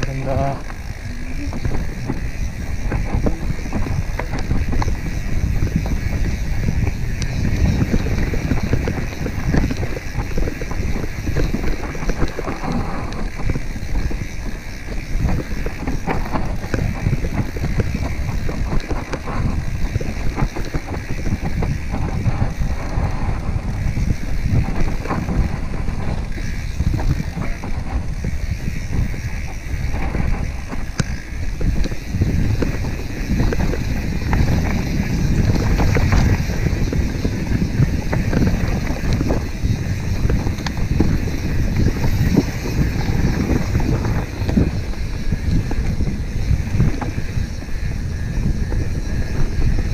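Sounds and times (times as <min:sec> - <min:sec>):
bike knocking over bumps: 0:00.0 - 0:49.9
bike tyres rumbling on dirt: 0:00.0 - 0:49.9
wind buffeting microphone: 0:00.0 - 0:49.9.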